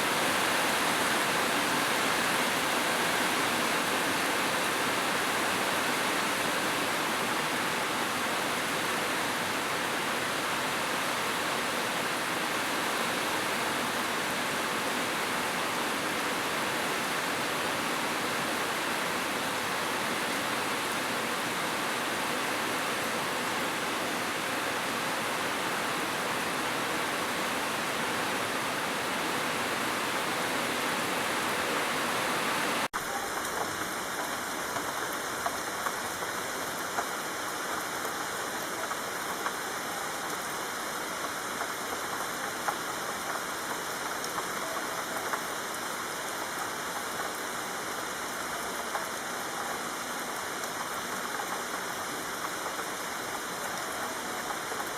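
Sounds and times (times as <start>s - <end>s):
heavy rain hiss: 0.0s - 54.9s.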